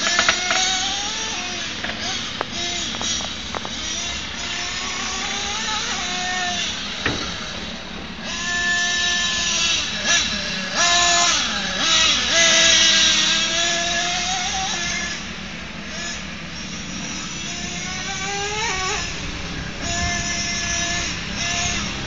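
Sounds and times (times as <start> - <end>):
rc truck engine revving: 0.0 - 22.0.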